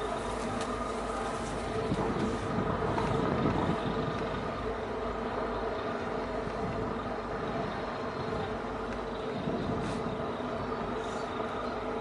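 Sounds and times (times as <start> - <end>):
boat diesel engine droning: 0.0 - 12.0.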